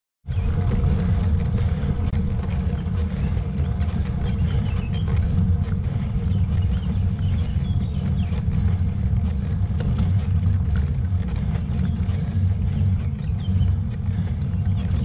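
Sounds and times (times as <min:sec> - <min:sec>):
road noise: 0:00.3 - 0:15.0
wind buffeting microphone: 0:00.3 - 0:15.0.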